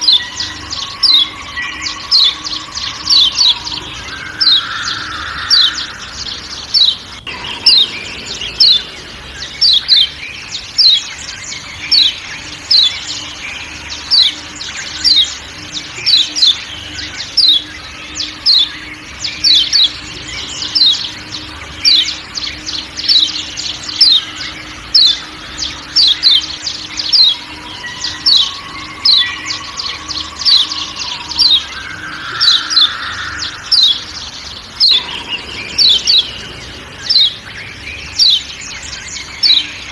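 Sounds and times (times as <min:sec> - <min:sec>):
bird calls sharp chirps: 0:00.0 - 0:39.9
faint forest ambience: 0:00.0 - 0:39.9.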